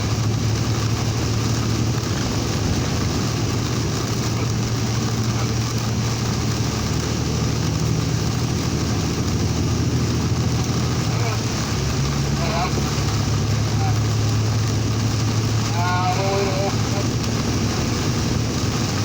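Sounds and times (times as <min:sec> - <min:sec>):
hiss of rain and road spray: 0:00.0 - 0:19.0
vehicle engine droning: 0:00.0 - 0:19.0.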